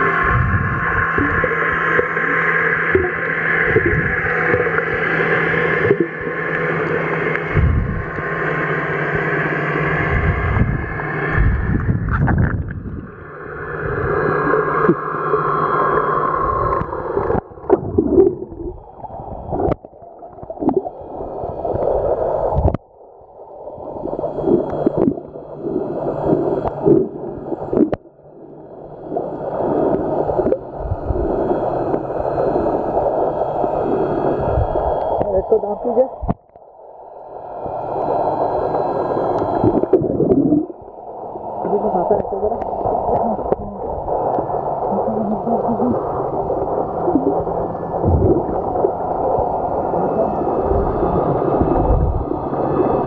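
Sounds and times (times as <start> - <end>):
engine drone underwater: 0.0 - 53.0
water rushing around microphone: 0.0 - 53.0.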